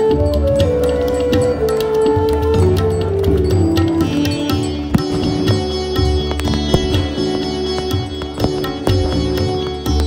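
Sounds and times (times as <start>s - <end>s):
percussion strikes: 0.0s - 10.0s.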